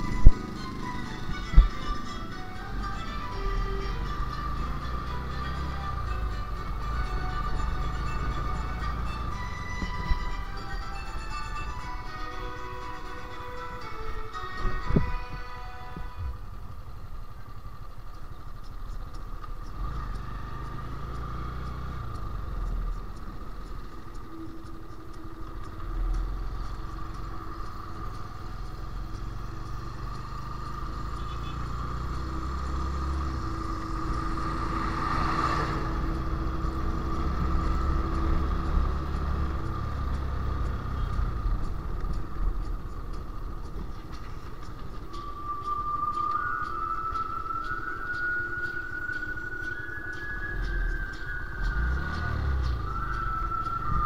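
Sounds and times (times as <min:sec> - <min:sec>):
high whine: 0:00.0 - 0:54.0
motorcycle engine rumble: 0:00.0 - 0:54.0.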